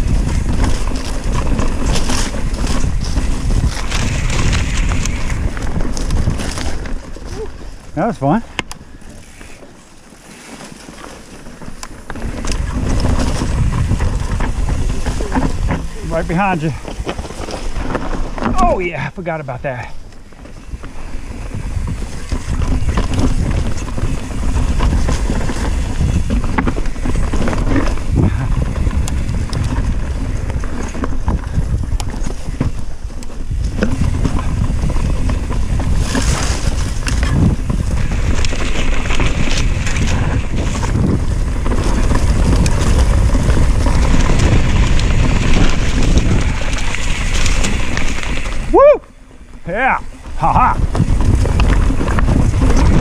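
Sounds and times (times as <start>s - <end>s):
bike tyres rumbling: 0.0s - 53.0s
wind rush on microphone: 0.0s - 53.0s
clicks and knocks over rocks: 8.4s - 48.8s, 49.6s - 53.0s.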